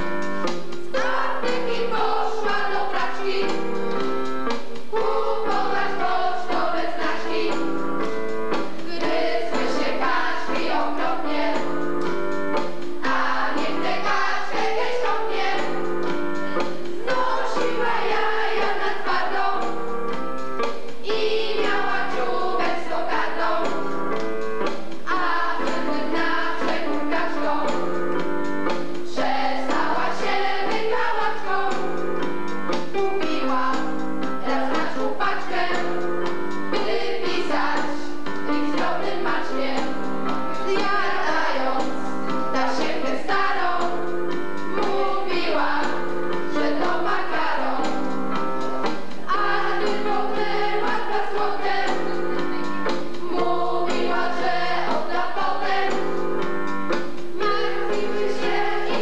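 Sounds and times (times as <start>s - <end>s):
choir singing with accompaniment: 0.0s - 59.0s.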